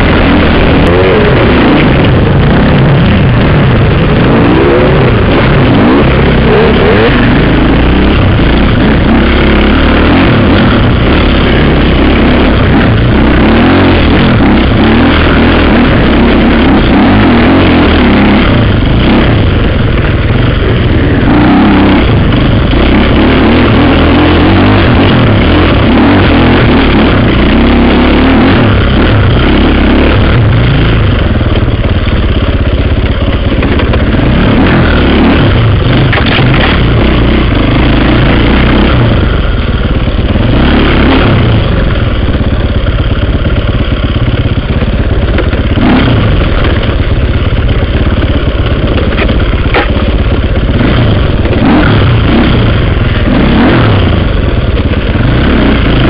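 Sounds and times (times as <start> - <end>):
dirt bike engine running hard: 0.0 - 56.0.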